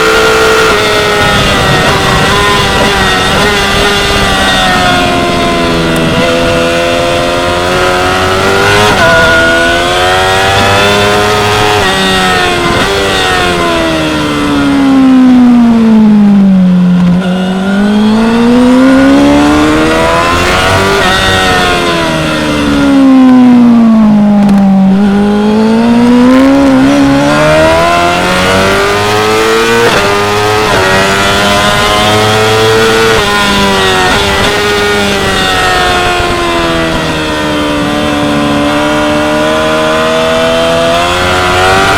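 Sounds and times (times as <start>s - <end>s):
motorcycle engine revving high: 0.0s - 41.9s.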